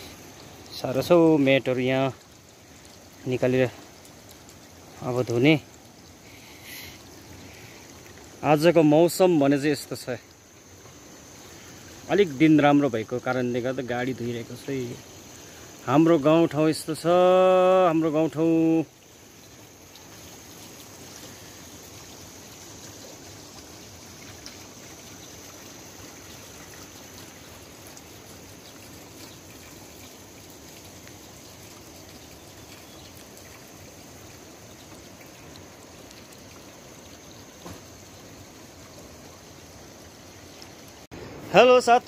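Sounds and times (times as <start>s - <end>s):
faint high insect drone: 0.0s - 42.0s
running water rushing: 0.0s - 42.0s.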